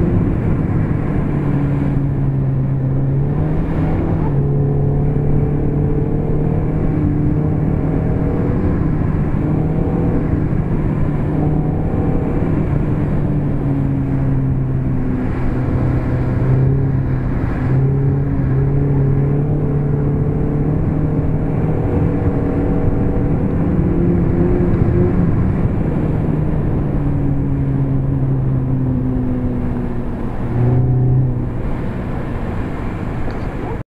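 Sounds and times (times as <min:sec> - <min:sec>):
car engine running: 0:00.0 - 0:33.8
tyre and road rumble: 0:00.0 - 0:33.8.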